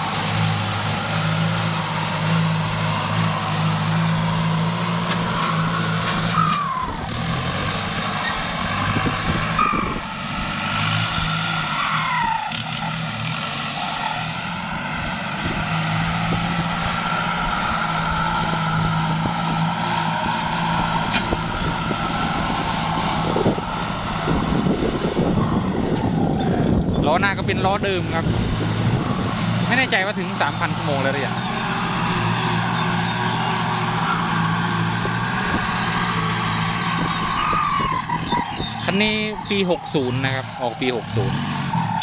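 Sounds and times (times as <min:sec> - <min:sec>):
tractor diesel engine: 0:00.0 - 0:42.0.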